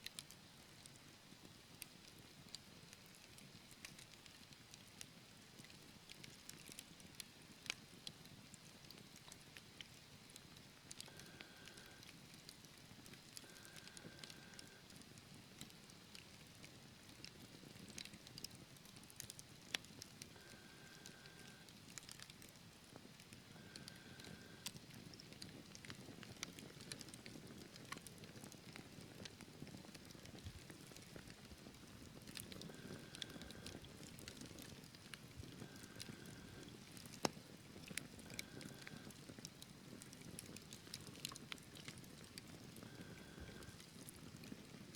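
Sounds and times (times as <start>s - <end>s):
wood fire crackling: 0.1s - 44.9s.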